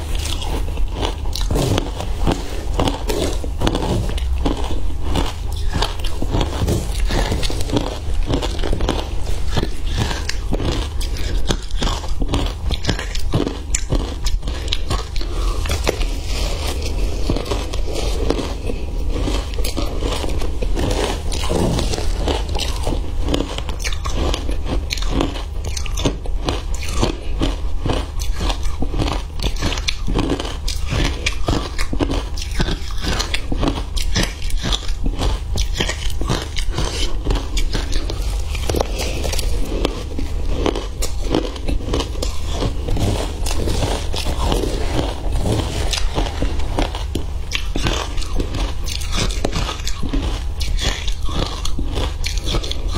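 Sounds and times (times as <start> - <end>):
person chewing crunchy ice: 0.0 - 52.9.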